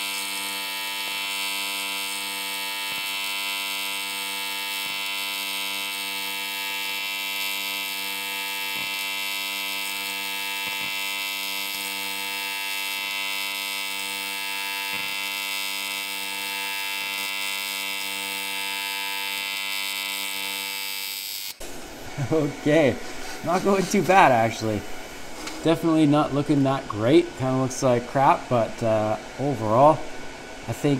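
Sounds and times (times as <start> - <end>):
welding arc buzzing: 0.0 - 30.9.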